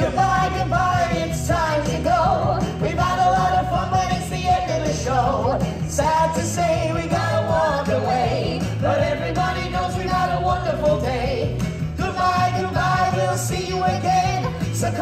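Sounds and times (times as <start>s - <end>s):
singing over a backing track: 0.0s - 15.0s.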